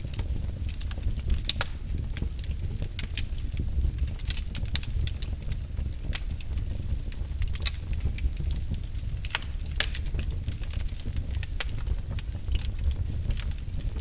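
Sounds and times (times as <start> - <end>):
logs crackling in a fireplace: 0.0 - 14.0.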